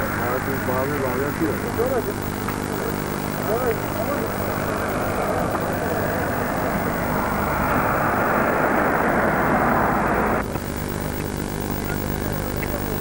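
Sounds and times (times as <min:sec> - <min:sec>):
steady rushing noise: 0:00.0 - 0:11.1
low electrical hum: 0:00.0 - 0:13.0.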